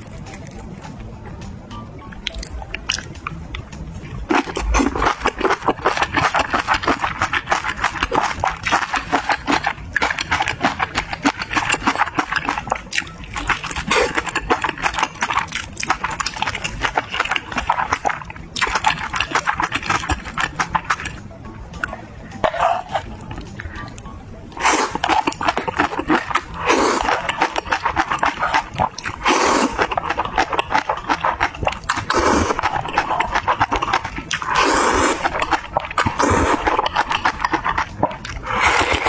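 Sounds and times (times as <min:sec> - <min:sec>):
wet chewing: 0:02.1 - 0:39.0.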